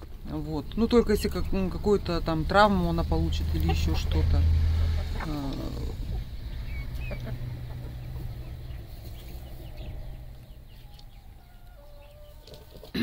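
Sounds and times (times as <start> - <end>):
hens clucking: 0.0 - 13.0
low rumble: 0.2 - 11.4.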